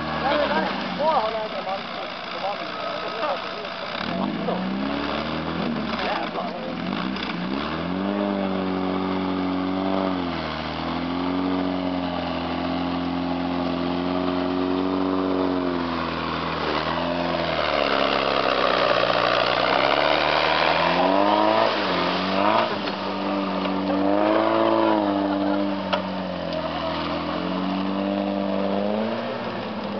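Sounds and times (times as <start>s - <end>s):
tracked vehicle engine revving: 0.0s - 29.9s.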